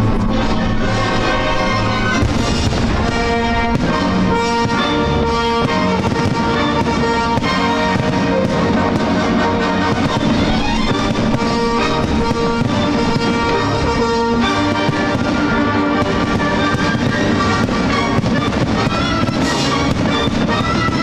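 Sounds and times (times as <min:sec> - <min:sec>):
orchestral music with brass: 0:00.0 - 0:21.0
firework shells bursting: 0:00.8 - 0:21.0.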